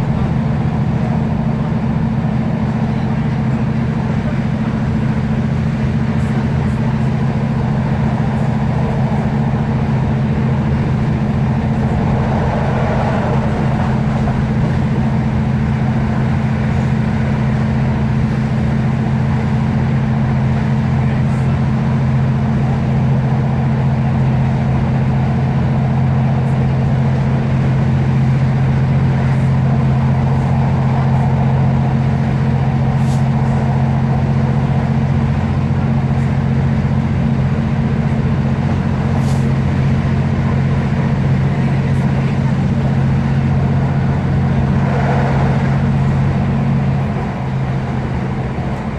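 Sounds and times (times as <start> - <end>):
diesel train engine droning: 0.0 - 48.9.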